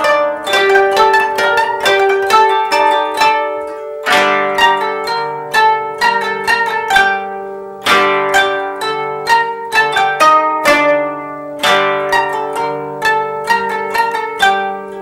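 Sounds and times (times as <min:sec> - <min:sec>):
kotos plucking notes and chords: 0:00.0 - 0:15.0.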